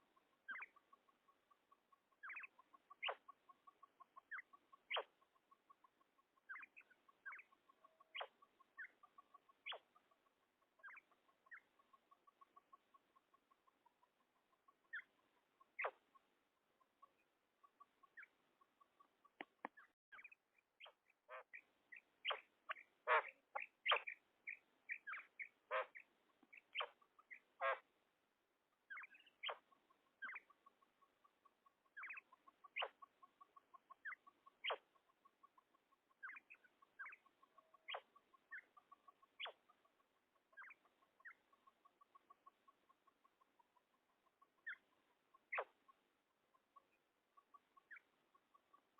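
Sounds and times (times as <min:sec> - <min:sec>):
quail calling: 0:00.0 - 0:19.1, 0:20.2 - 0:27.8, 0:28.9 - 0:48.9.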